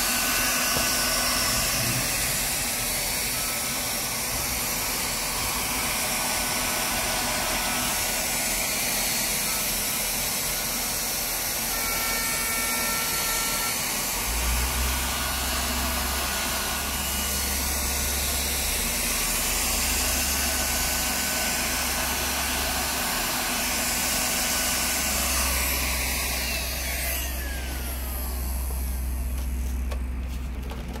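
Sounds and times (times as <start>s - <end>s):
hot air gun blower hissing: 0.0s - 29.9s.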